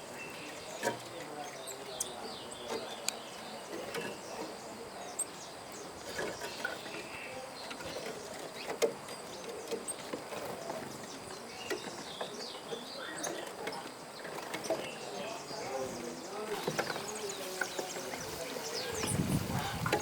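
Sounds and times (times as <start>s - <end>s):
small birds chirping: 0.0s - 20.0s
steady background hiss: 0.0s - 20.0s.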